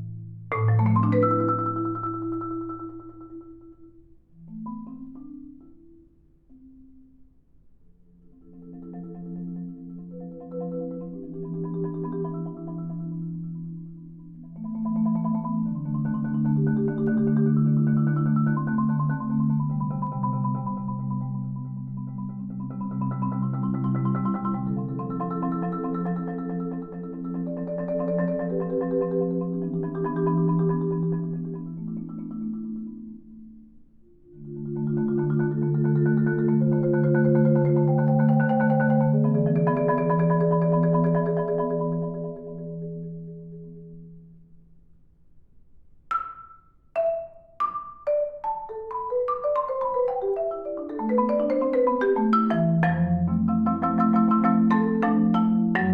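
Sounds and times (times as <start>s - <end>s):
solo marimba: 0.0s - 45.0s, 46.0s - 55.9s.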